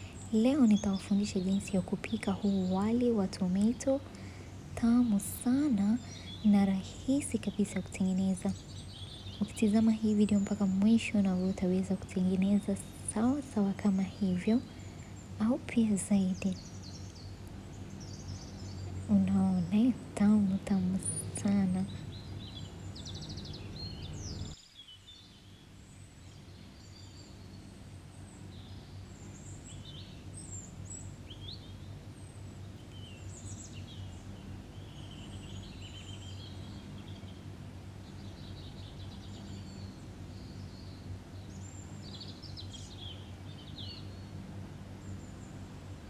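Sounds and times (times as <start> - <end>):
small birds chirping: 0.0 - 46.0
steady low hum: 0.0 - 46.0.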